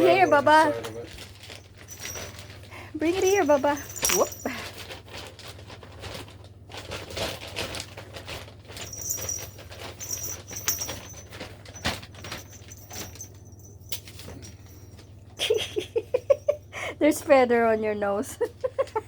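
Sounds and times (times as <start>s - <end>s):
cat playing with toys rustling: 0.0s - 16.4s.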